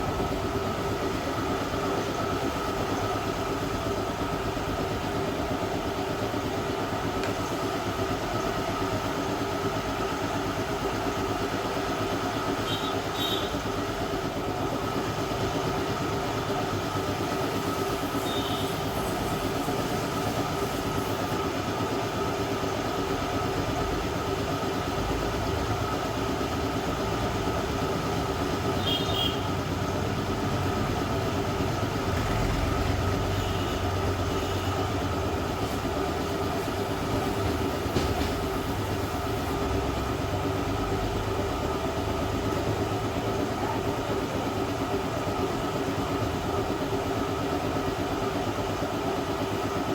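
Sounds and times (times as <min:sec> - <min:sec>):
hot-air welder droning: 0:00.0 - 0:49.8.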